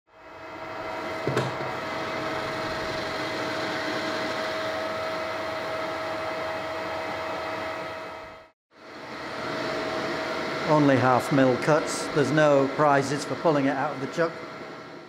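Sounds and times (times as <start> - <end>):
metal lathe humming: 0.3 - 15.0.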